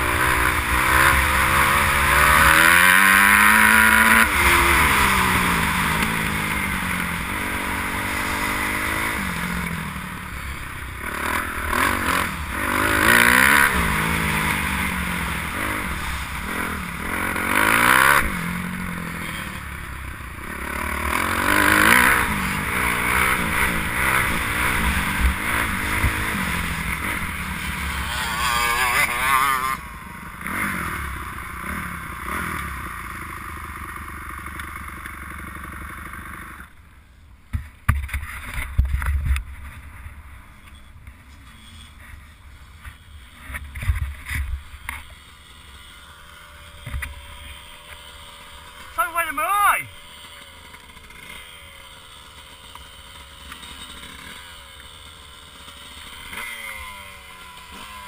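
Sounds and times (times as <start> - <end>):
motocross bike engine revving: 0.0 - 36.8, 42.8 - 58.0.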